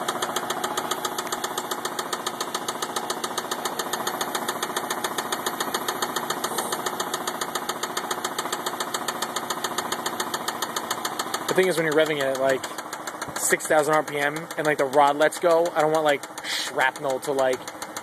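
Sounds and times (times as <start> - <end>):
car engine idling with knocking: 0.0 - 18.0.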